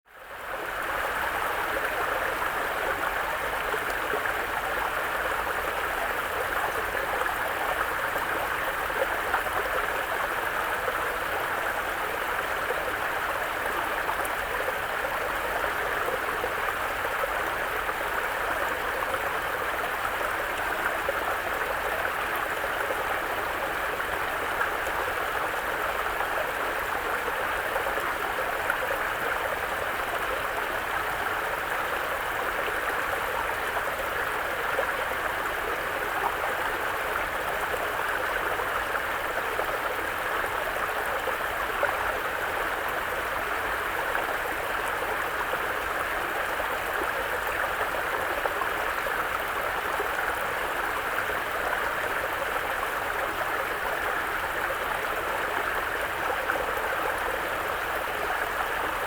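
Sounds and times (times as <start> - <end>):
brook flowing: 0.1 - 59.0.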